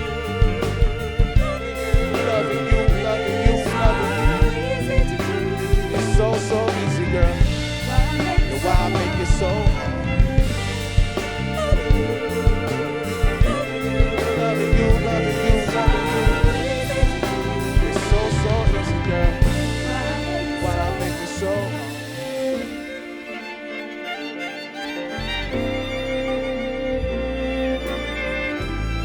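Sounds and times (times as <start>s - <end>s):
soul band playing: 0.0s - 29.0s.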